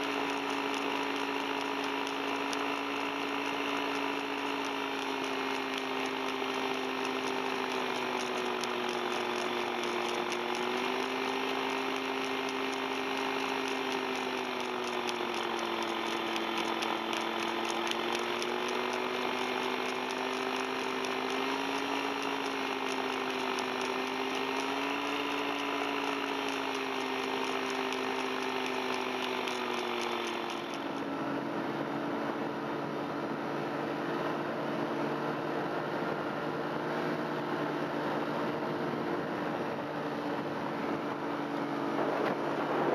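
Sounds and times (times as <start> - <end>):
paramotor engine and propeller: 0.0 - 42.9.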